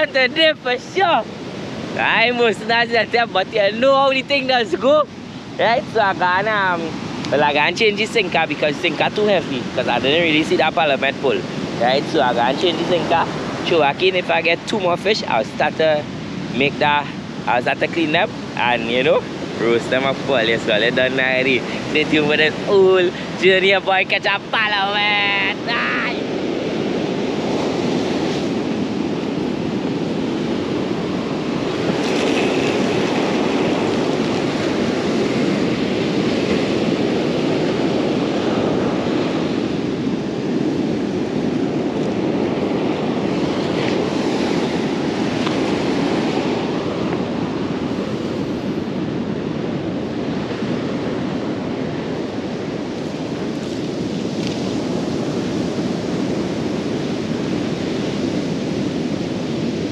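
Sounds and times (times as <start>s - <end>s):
ocean surf breaking on beach: 0.0s - 59.9s
wind on microphone: 0.0s - 59.9s.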